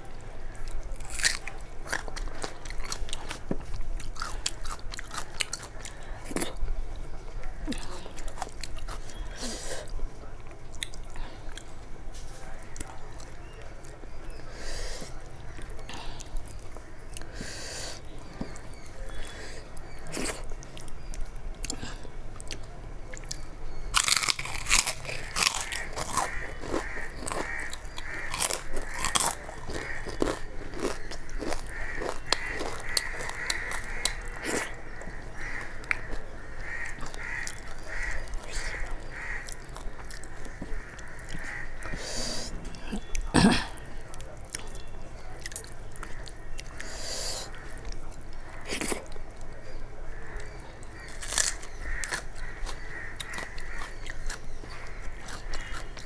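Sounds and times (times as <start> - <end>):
quiet chewing: 0.1 - 56.0
loud crisp crunching: 0.5 - 6.6, 15.5 - 56.0.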